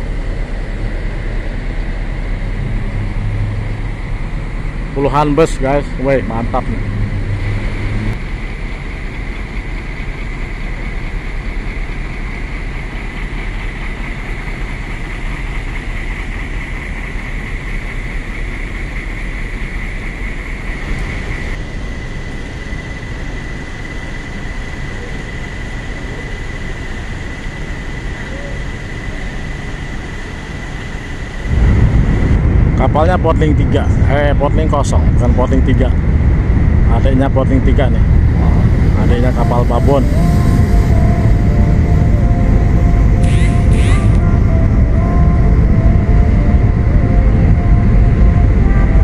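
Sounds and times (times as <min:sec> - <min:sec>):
diesel buses idling: 0:00.0 - 0:49.0
thin high whine: 0:00.0 - 0:49.0.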